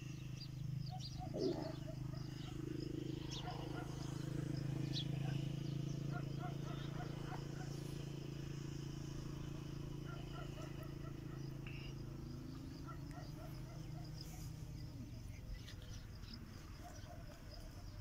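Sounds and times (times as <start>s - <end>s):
high insect buzz: 0.0s - 16.6s
small birds chirping: 0.0s - 18.0s
steady low hum: 0.0s - 18.0s.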